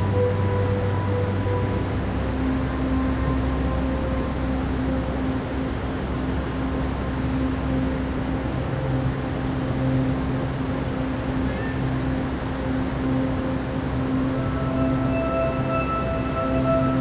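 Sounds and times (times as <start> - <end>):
ambient drone music: 0.0 - 17.0
rushing wash of noise: 0.0 - 17.0.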